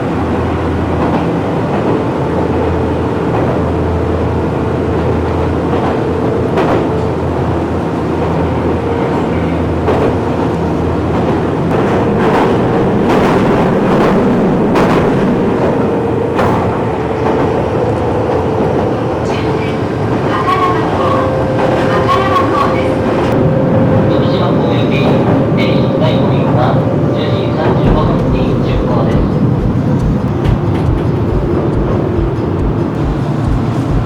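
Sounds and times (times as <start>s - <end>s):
diesel railcar engine drone: 0.0s - 34.0s.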